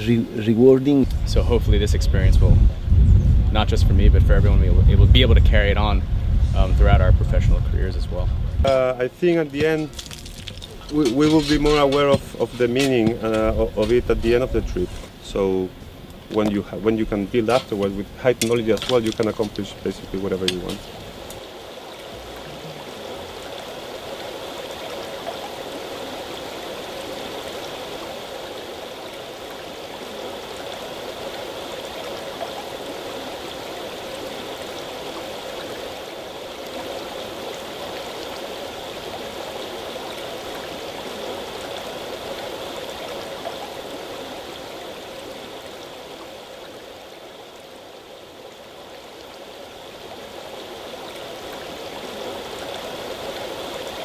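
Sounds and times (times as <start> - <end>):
river water flowing: 0.0 - 2.0, 8.1 - 54.0.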